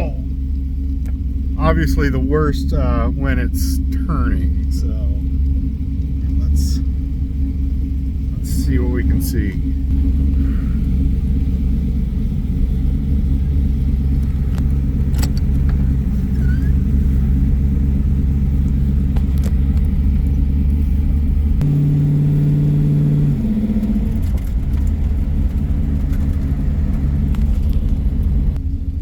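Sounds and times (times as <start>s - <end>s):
car engine low rumble: 0.0s - 29.0s.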